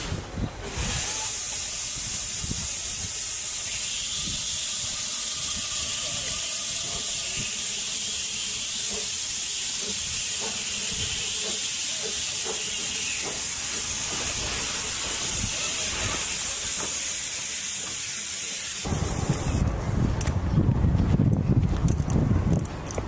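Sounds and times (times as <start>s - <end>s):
steam locomotive hissing: 0.0s - 19.6s.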